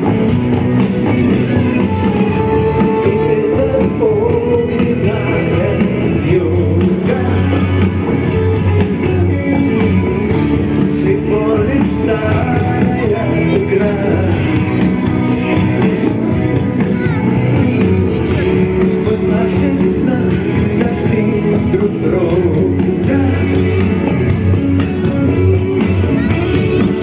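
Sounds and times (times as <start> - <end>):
live rock band with vocals: 0.0 - 27.0.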